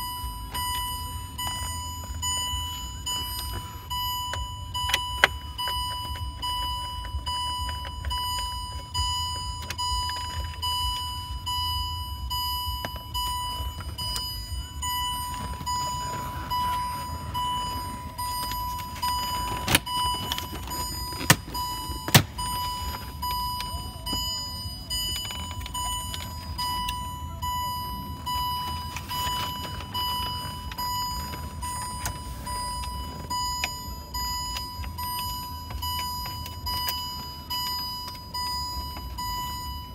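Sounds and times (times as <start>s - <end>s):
car warning chime beeping: 0.0s - 39.9s
low car rumble: 0.0s - 39.9s.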